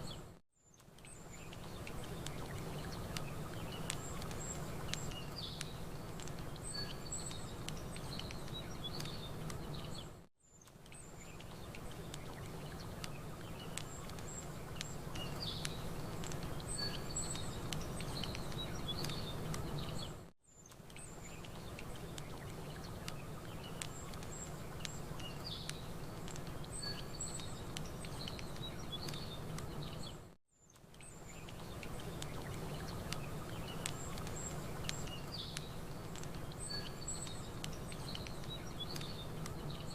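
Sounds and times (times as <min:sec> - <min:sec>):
small birds chirping: 0:00.0 - 0:39.9
campfire crackling: 0:00.8 - 0:10.1, 0:10.7 - 0:39.9.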